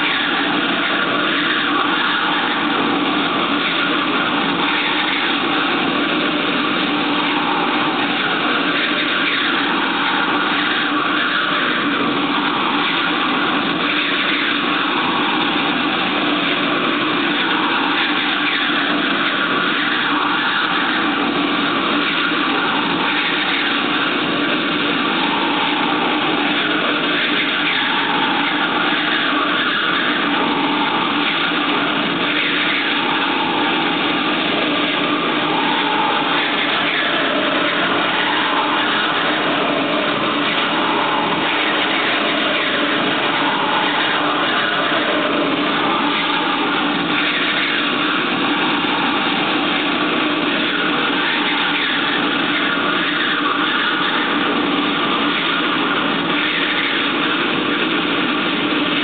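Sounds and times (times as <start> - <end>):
machine-like drone over loudspeakers: 0.0 - 59.0.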